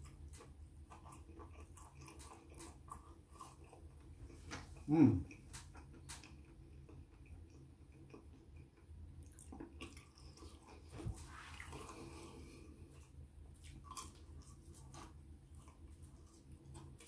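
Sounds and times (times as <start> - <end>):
low steady hum: 0.0 - 17.0
wet chewing: 0.0 - 17.0.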